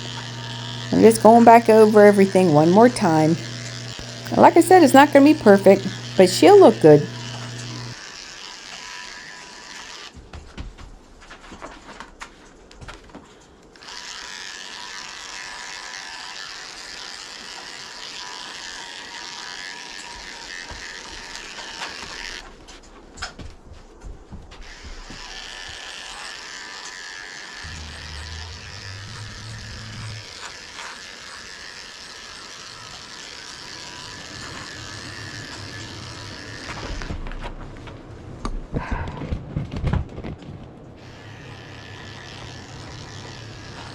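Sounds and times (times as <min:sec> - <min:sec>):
electric clippers buzzing: 0:00.0 - 0:10.3, 0:13.8 - 0:22.6, 0:24.6 - 0:38.1, 0:41.0 - 0:43.9.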